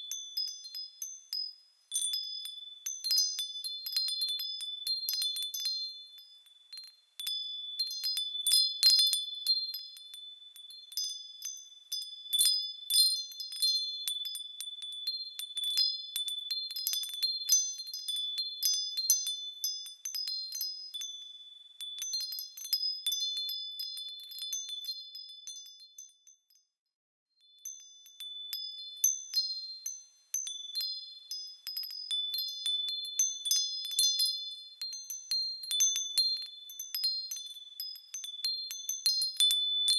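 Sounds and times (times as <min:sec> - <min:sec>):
small metal bells tinkling: 0:00.0 - 0:26.8, 0:27.4 - 0:39.9.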